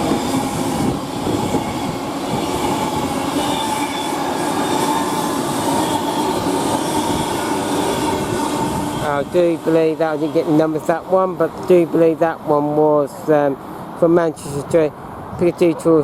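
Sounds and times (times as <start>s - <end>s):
train wheels rushing on rail: 0.0s - 14.9s.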